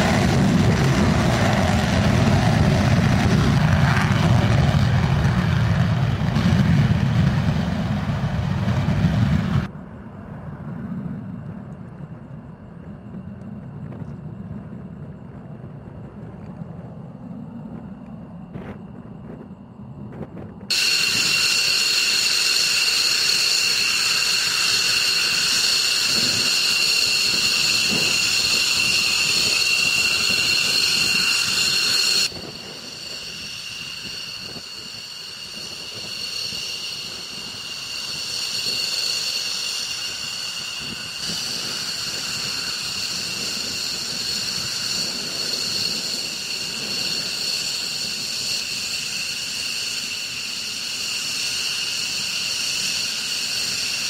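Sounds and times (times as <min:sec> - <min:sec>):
distant jet rumble: 0:00.0 - 0:54.0
jet turbine whine: 0:00.0 - 0:54.0.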